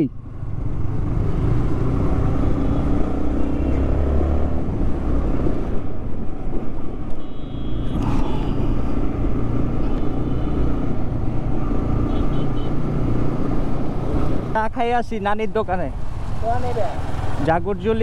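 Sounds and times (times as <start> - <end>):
motorcycle engine and road rumble: 0.0 - 18.0.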